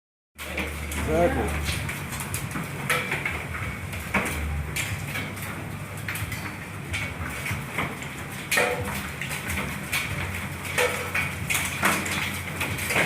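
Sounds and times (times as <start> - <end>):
hail and rain hissing: 0.4 - 13.0
hailstones clacking on hard surfaces: 0.4 - 13.0.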